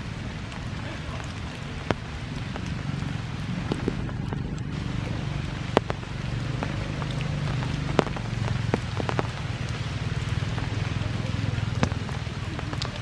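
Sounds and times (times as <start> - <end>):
rain falling: 0.0 - 13.0
sharp ticks of raindrops: 0.0 - 13.0.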